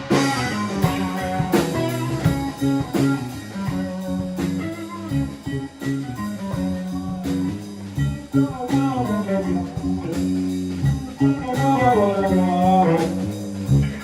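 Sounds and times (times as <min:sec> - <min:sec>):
bass guitar: 0:00.0 - 0:14.0
drum kit: 0:00.0 - 0:14.0
electric guitar lines with bends: 0:00.0 - 0:14.0.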